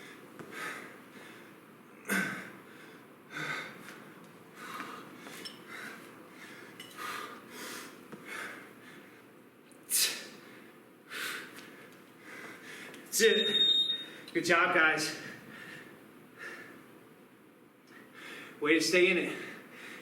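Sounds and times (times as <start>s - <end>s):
man breathing hard: 0.0s - 13.1s, 15.2s - 16.9s, 17.9s - 18.6s, 19.3s - 20.0s.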